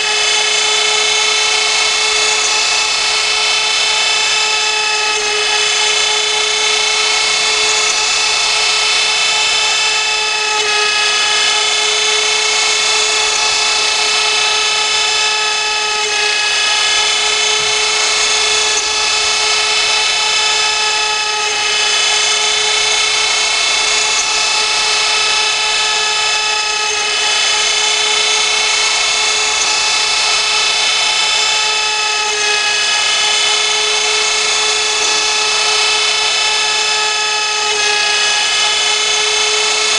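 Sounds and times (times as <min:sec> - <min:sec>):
router spindle high-pitched whine: 0:00.0 - 0:39.9.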